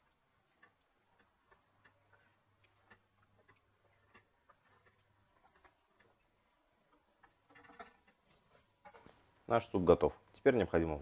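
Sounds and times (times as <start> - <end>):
wooden spatula stirring stew: 0.0 - 9.4.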